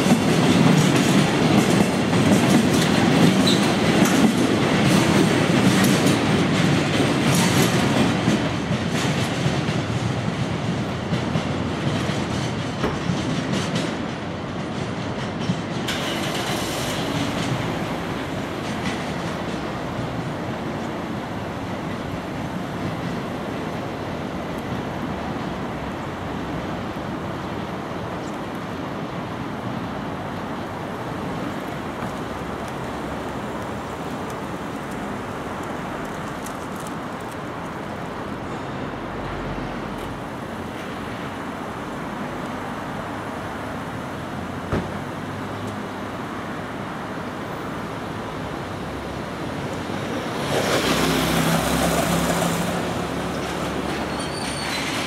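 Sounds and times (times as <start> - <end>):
freight train rumbling: 0.0 - 55.0.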